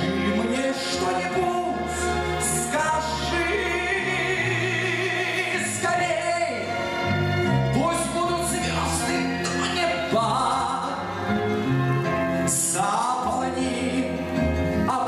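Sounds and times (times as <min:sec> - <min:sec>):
man singing a slow ballad: 0:00.0 - 0:06.8, 0:07.7 - 0:11.1, 0:12.5 - 0:15.0
instrumental accompaniment with bass: 0:00.0 - 0:15.0.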